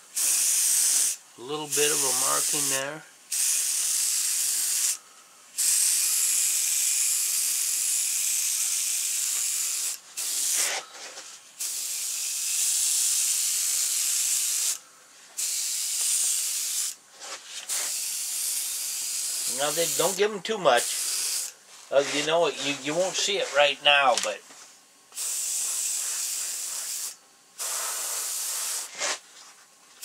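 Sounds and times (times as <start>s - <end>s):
airbrush hissing: 0.1s - 5.0s, 5.6s - 10.9s, 11.6s - 23.8s, 25.1s - 29.2s.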